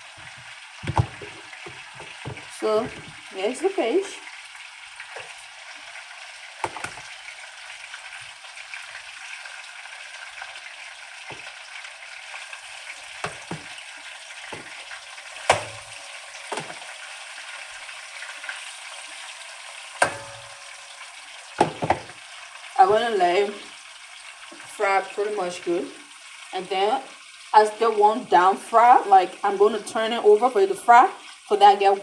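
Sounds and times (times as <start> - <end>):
fish sizzling in hot oil: 0.0 - 32.0.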